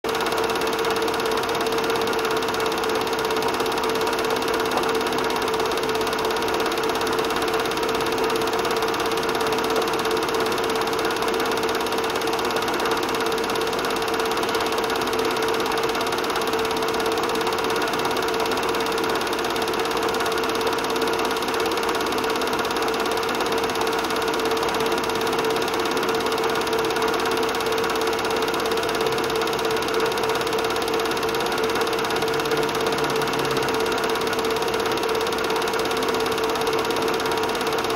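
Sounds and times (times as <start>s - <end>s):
film projector whirring and clattering: 0.1s - 37.9s.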